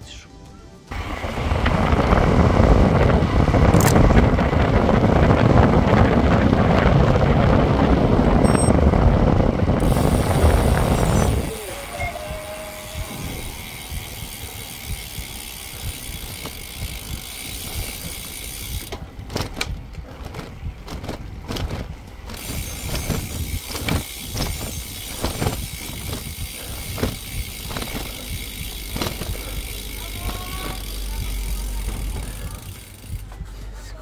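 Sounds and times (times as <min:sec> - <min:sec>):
road and wind rumble: 0:00.8 - 0:34.0
bicycle clicks and rattles: 0:00.9 - 0:33.5.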